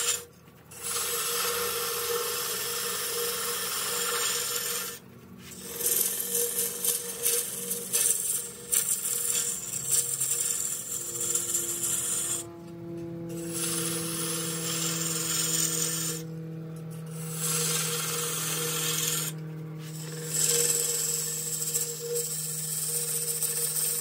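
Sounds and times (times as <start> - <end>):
gouge cutting wood on a lathe: 0.0 - 12.6, 13.2 - 16.4, 17.0 - 24.0
lathe motor humming: 0.0 - 24.0.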